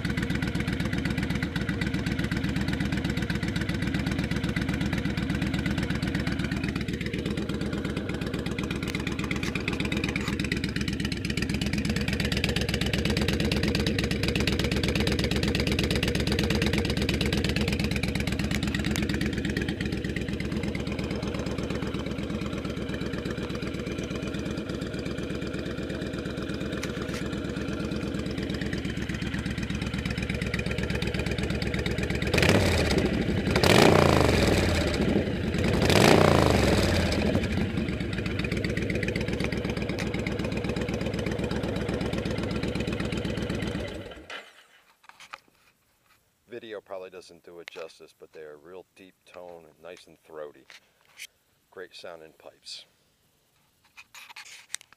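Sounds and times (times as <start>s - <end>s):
motorcycle engine idling and revving: 0.0s - 44.5s.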